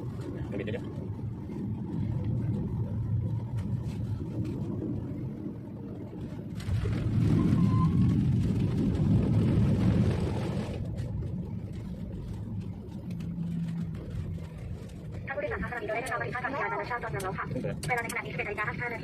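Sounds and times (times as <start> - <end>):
airliner cabin rumble: 0.0 - 19.0
jet engine roar: 0.0 - 19.0.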